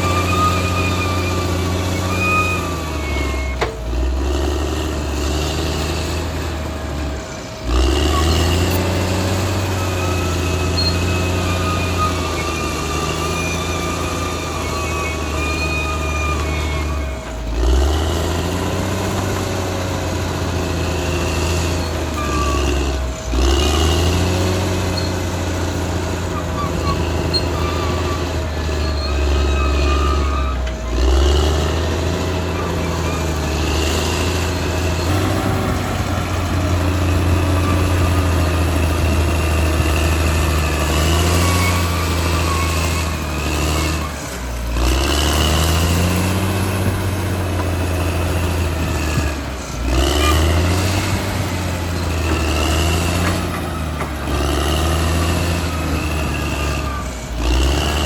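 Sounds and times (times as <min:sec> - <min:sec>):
bulldozer diesel engine running: 0:00.0 - 0:58.0
high-pitched squeals: 0:00.0 - 0:58.0.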